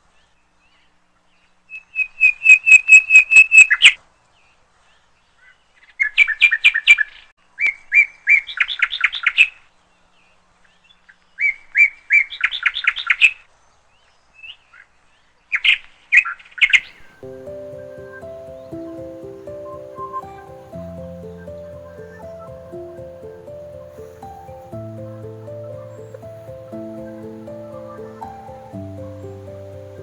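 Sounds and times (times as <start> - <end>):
songbird singing: 0.1 - 30.0.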